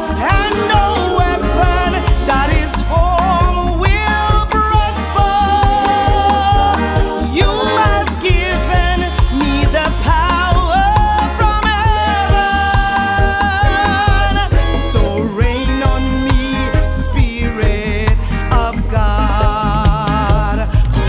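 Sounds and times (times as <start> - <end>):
gospel song music: 0.0 - 21.0.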